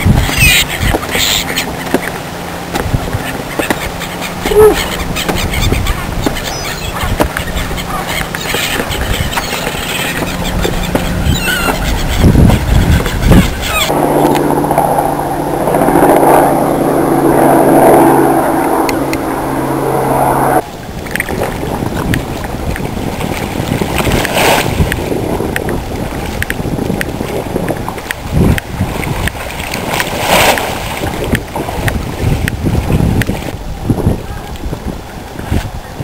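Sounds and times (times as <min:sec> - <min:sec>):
low mechanical drone: 0:00.0 - 0:30.2
wind buffeting microphone: 0:00.0 - 0:36.0.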